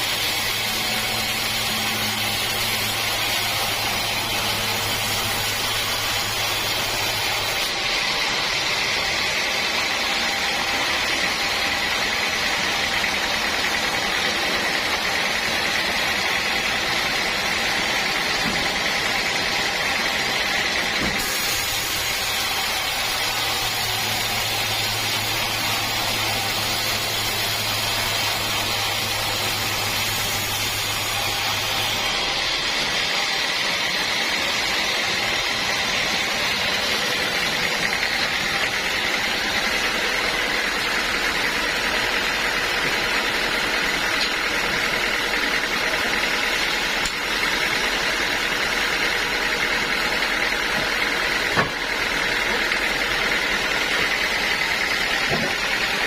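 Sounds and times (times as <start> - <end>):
sawmill saw running: 0.0 - 56.0.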